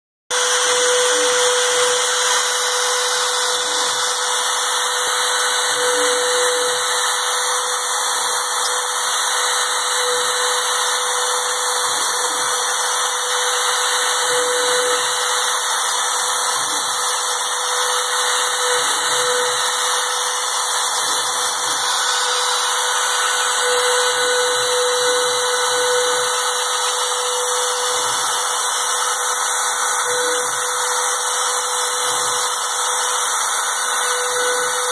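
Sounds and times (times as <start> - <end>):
power tool hissing and whining: 0.3 - 34.9.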